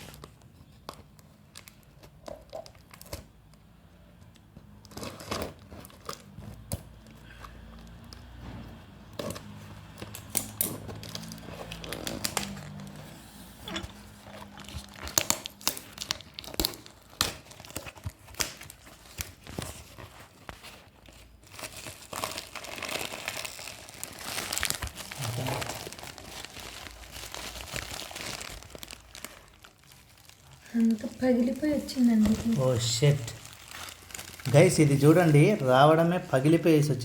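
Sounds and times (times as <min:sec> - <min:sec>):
packaging crinkling and tearing: 0:00.0 - 0:08.4, 0:09.0 - 0:13.1, 0:13.8 - 0:36.8.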